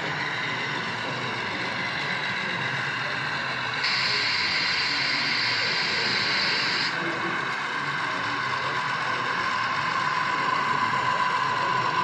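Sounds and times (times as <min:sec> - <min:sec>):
model trains running: 0:00.0 - 0:12.0.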